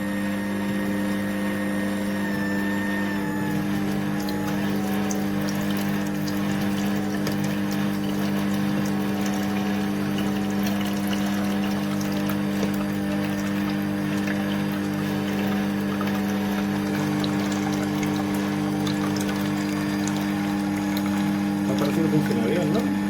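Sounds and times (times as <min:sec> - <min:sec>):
juicer motor humming: 0:00.0 - 0:23.0.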